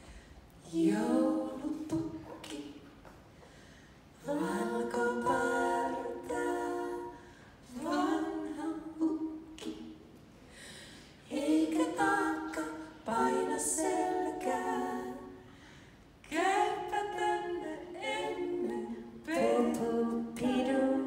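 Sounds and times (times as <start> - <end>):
a cappella ensemble singing: 0.0 - 21.0.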